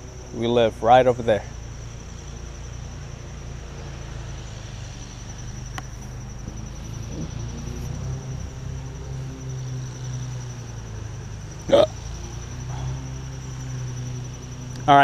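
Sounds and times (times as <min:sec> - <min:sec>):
insects trilling: 0:00.0 - 0:15.0
low steady rumble: 0:00.0 - 0:15.0.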